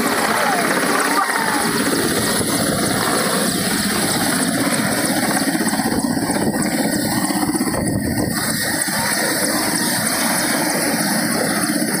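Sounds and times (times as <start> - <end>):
helicopter rotor beat: 0.0 - 12.0
turbine roar: 0.0 - 12.0.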